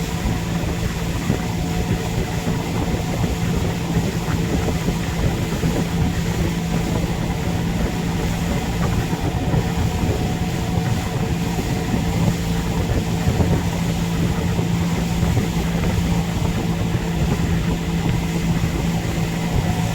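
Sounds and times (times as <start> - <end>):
boat engine droning: 0.0 - 19.9.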